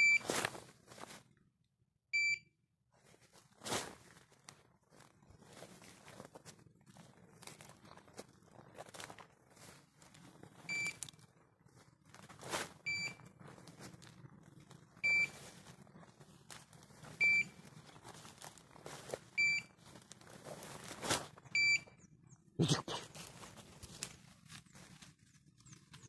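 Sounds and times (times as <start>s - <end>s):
footsteps through grass and brush: 0.2s - 1.3s, 3.0s - 21.5s, 23.0s - 25.9s.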